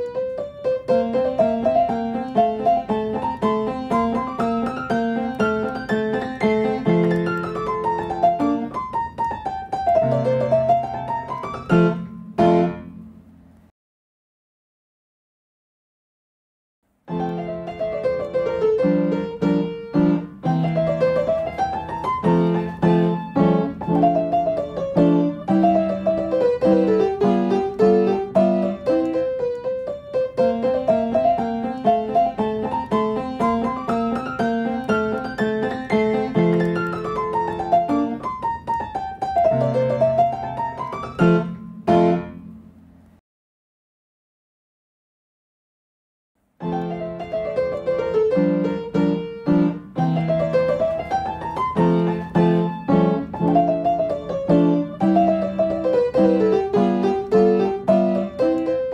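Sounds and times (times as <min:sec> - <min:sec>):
piano music: 0:00.0 - 0:13.4, 0:17.0 - 0:43.0, 0:46.6 - 0:58.9.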